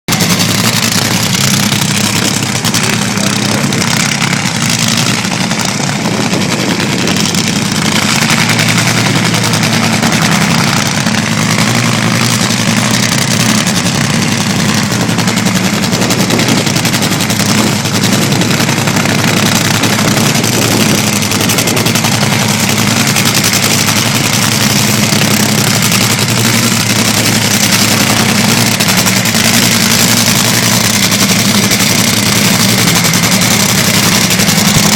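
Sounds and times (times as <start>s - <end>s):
dragster engine running rough: 0.1s - 34.9s.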